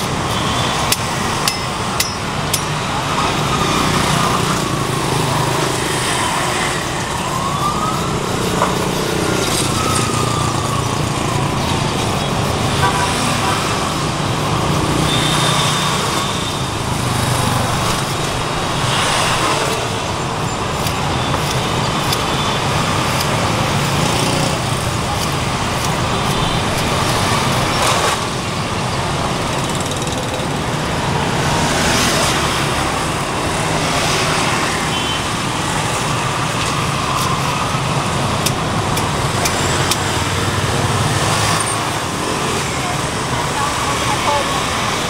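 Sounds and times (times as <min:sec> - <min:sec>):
road traffic noise: 0:00.0 - 0:45.0.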